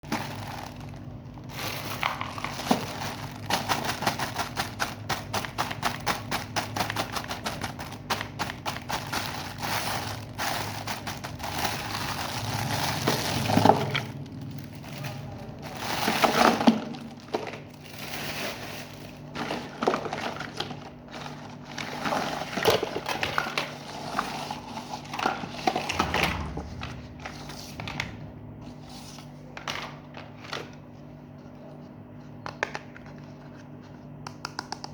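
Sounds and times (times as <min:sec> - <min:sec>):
packaging clicking and crinkling: 0:00.0 - 0:28.2.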